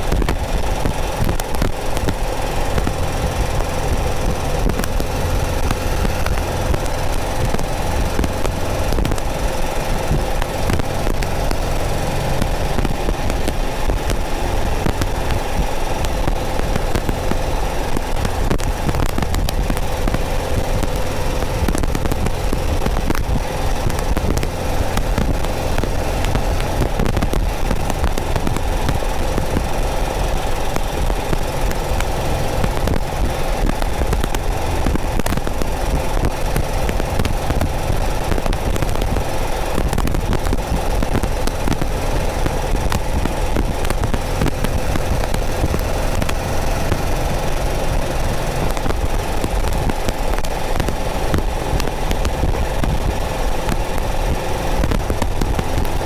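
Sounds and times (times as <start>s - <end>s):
car engine running steadily: 0.0s - 56.0s
light crackling static: 0.0s - 56.0s.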